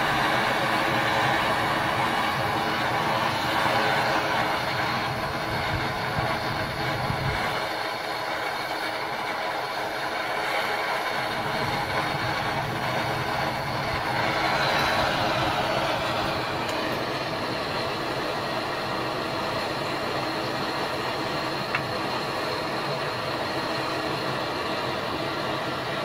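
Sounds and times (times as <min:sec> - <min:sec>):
blowtorch hissing: 0:00.0 - 0:26.0.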